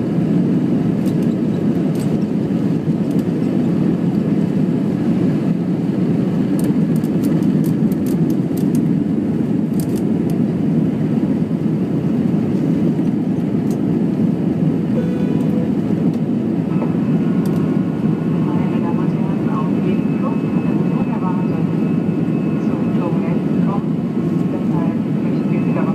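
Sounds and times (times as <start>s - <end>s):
jet engine cabin drone: 0.0s - 25.9s.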